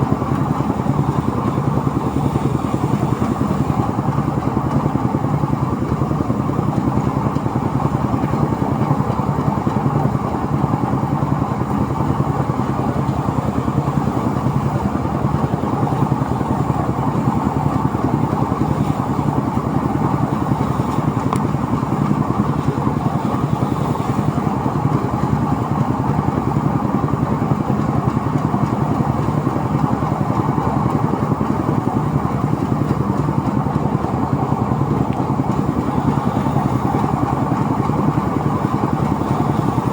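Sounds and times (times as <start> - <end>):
threshing machine engine hum: 0.0 - 39.9.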